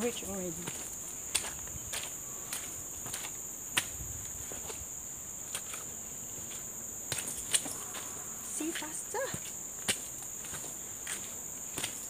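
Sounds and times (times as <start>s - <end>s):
footsteps on muddy trail: 0.0s - 4.9s, 5.5s - 12.0s
insects buzzing: 0.0s - 12.0s.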